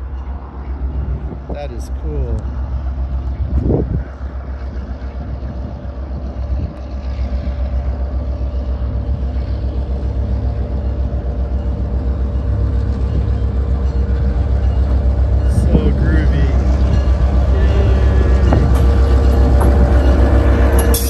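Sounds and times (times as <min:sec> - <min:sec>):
diesel locomotive engine throbbing: 0:00.0 - 0:21.0.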